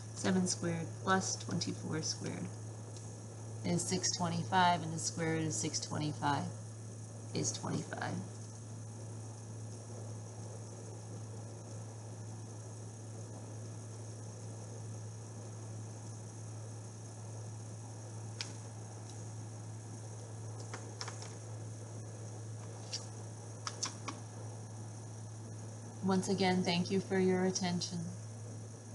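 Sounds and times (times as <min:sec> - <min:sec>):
low electrical hum: 0:00.0 - 0:28.9.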